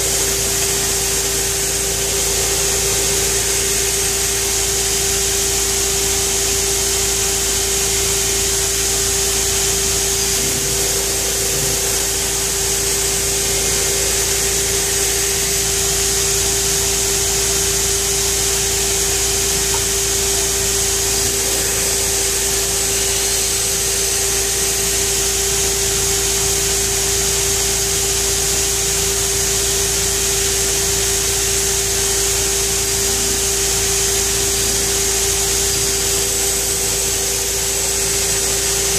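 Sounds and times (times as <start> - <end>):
belt grinder whining and hissing: 0.0 - 38.9.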